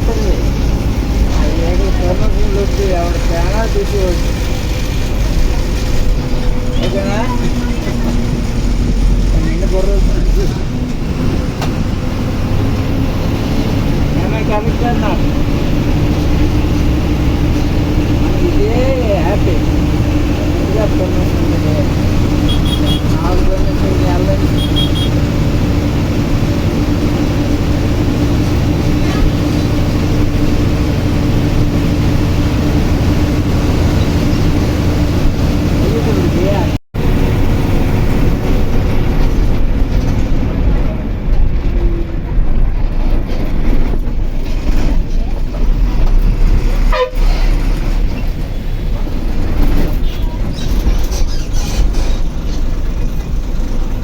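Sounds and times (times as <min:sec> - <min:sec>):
vehicle rumble from inside: 0:00.0 - 0:54.0.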